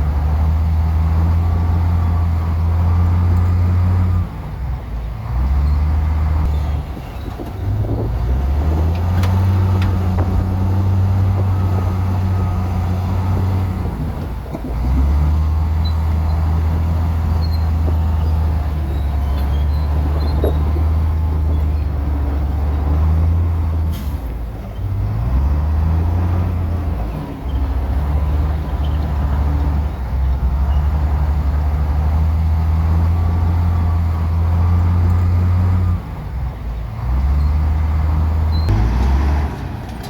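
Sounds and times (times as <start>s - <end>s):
bulldozer diesel engine under load: 0.0s - 40.0s.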